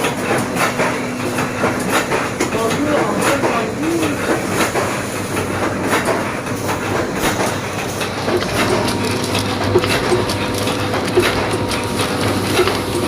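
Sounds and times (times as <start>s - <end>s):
packing machine clattering: 0.0s - 13.0s.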